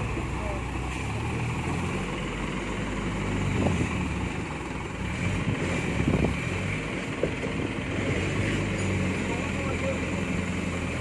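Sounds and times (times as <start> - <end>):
dump truck diesel engine running: 0.0 - 11.0.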